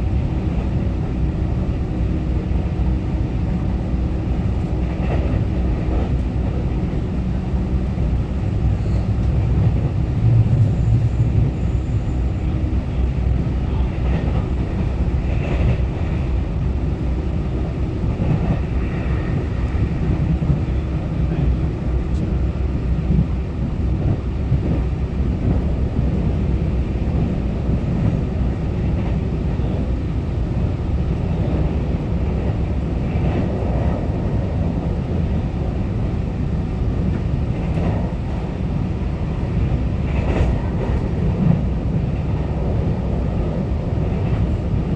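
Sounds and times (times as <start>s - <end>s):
train rumbling from inside: 0.0s - 44.9s.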